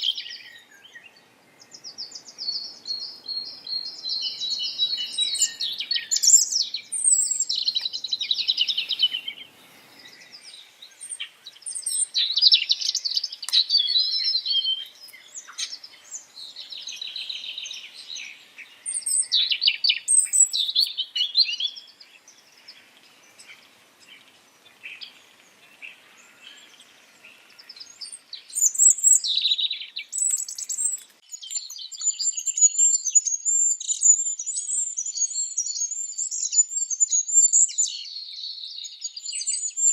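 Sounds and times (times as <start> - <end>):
cage birds chirping and trilling: 0.0 - 39.9.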